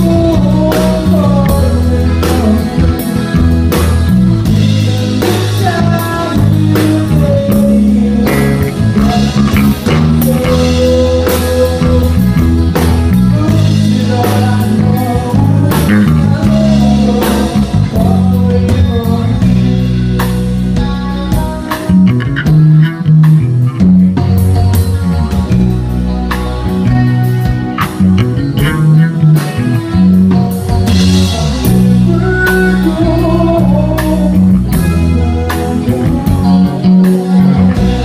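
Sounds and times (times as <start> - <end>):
drum kit beat: 0.0 - 38.0
electric guitar and bass: 0.0 - 38.0.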